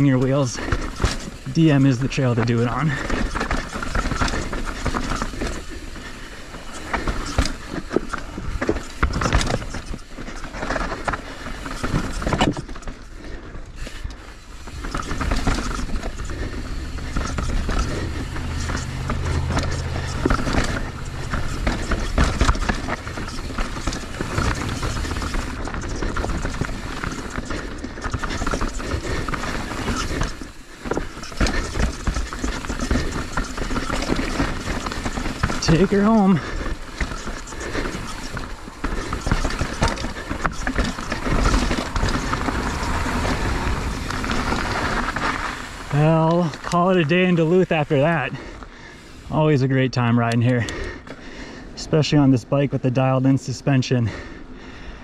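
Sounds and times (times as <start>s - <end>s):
bike wheels clattering on rocks: 0.0s - 51.5s
rough rolling noise: 0.0s - 55.0s.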